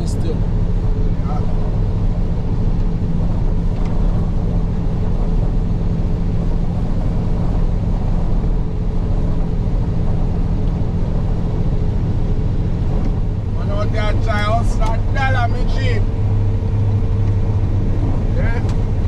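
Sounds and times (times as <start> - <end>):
road noise: 0.0 - 19.0
truck engine hum: 0.0 - 19.0.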